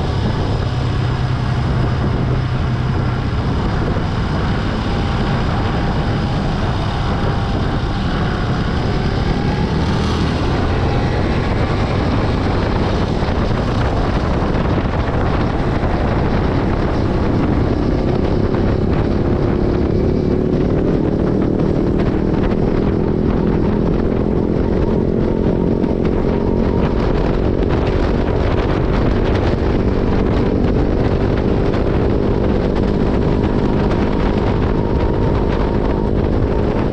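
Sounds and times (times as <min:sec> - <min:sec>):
motorcycle engine droning: 0:00.0 - 0:36.9.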